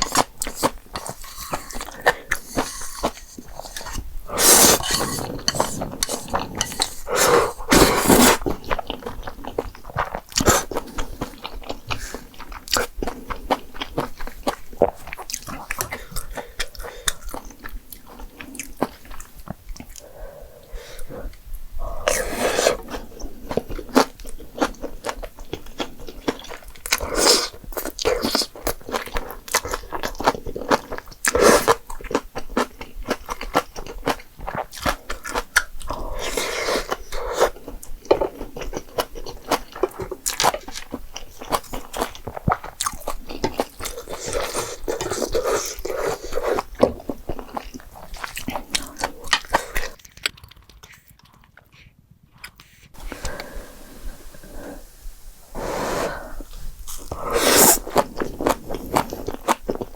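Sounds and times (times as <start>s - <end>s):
close chewing and biting: 0.0s - 55.3s, 56.2s - 59.9s.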